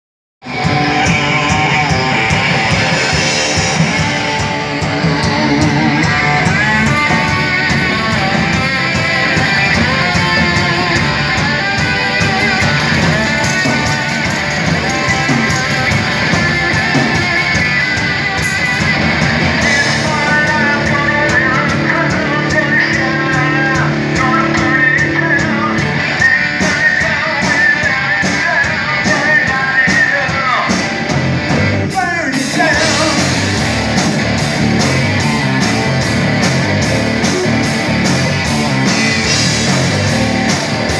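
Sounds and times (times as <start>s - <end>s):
bass guitar: 0.4s - 40.9s
drum kit: 0.4s - 40.9s
electric guitar: 0.4s - 40.9s.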